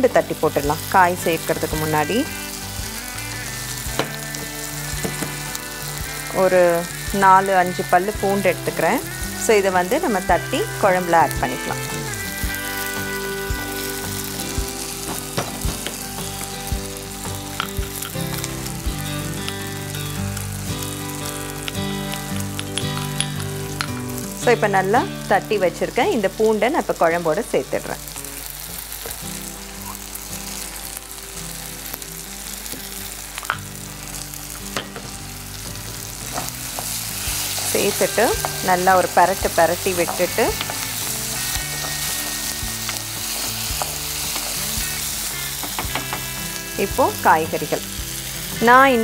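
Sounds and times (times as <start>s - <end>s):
sauce sizzling in a pot: 0.0s - 49.0s.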